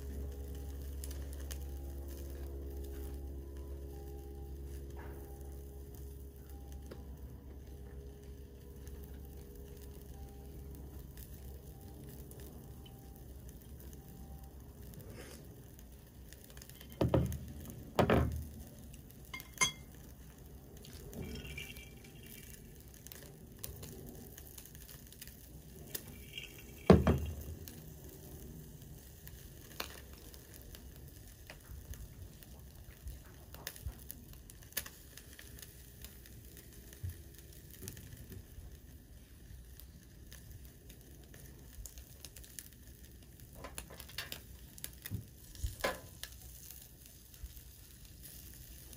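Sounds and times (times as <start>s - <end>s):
meat sizzling on grill: 0.0s - 48.9s
pops and crackles: 8.6s - 48.9s.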